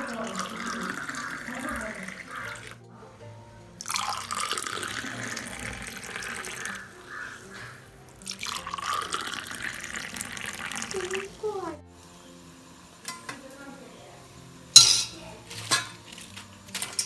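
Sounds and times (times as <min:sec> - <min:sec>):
background music: 0:00.0 - 0:17.0
running water: 0:00.0 - 0:17.0.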